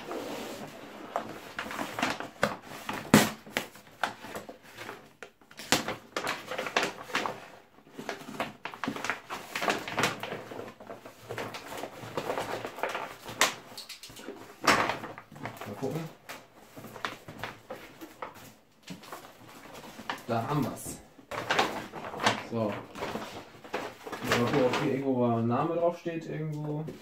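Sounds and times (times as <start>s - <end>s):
packing paper rustling and crinkling: 0.0s - 27.0s.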